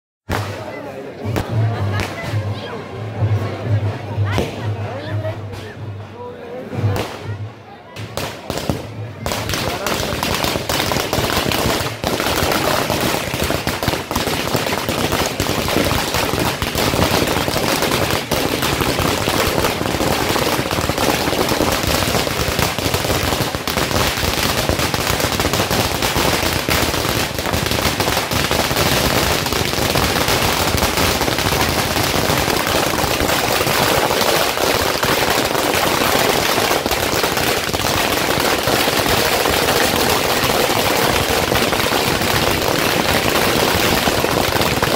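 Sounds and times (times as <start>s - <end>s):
firecrackers bursting: 0.3s - 2.4s, 6.8s - 7.4s, 8.0s - 44.9s.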